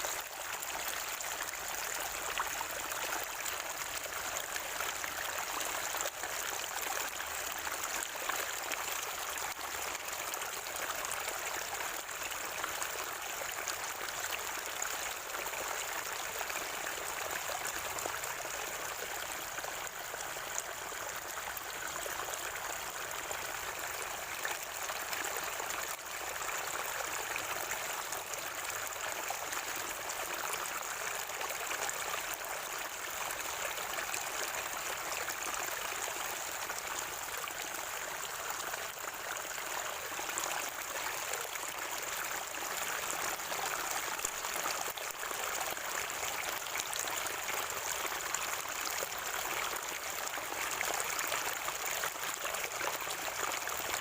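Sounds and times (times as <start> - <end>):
spring water gurgling and trickling: 0.0 - 54.0.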